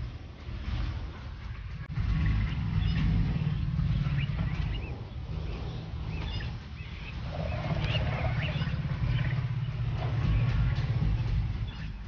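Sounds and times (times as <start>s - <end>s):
steady low rumble: 0.0s - 12.0s
birds chirping: 0.5s - 12.0s.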